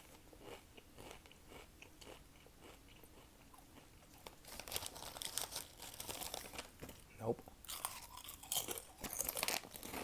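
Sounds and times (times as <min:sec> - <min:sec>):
chips being chewed: 0:00.0 - 0:06.6, 0:07.7 - 0:10.0.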